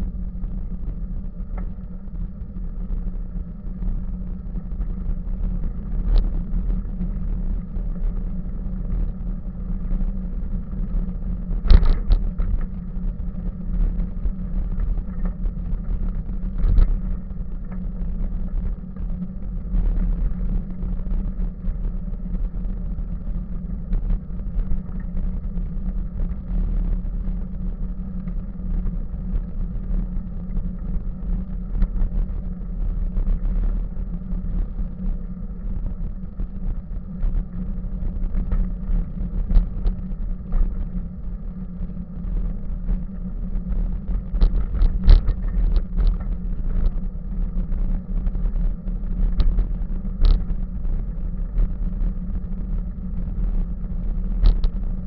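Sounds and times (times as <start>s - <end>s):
bicycle tyres rumbling on pavement: 0.0s - 55.0s.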